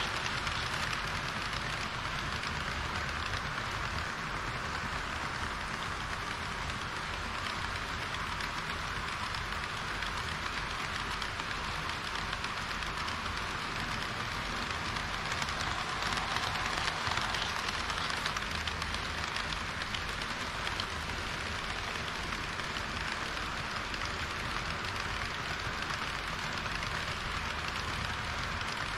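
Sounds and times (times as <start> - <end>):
clicks at rail joints: 0.0 - 28.9
model train wheels rattling on rails: 0.0 - 28.9.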